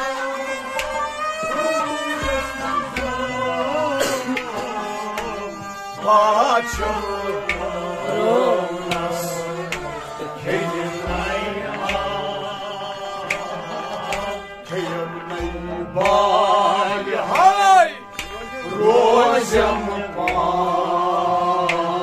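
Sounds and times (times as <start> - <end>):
steady drone: 0.0 - 22.0
tabla playing: 0.0 - 22.0.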